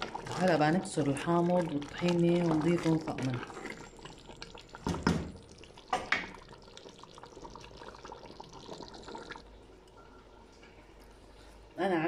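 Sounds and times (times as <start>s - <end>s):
stew bubbling in pot: 0.0s - 9.8s.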